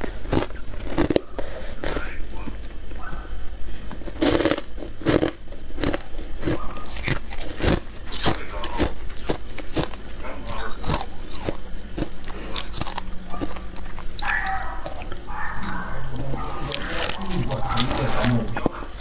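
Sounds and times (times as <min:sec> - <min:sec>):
chewing crunchy ice: 0:00.0 - 0:02.2, 0:04.0 - 0:18.8.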